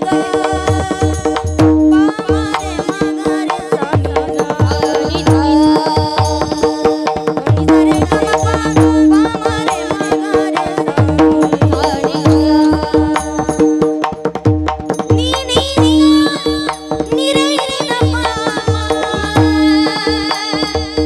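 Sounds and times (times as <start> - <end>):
woman singing: 0.0 - 14.0, 15.1 - 21.0
hand drum beat: 0.0 - 21.0.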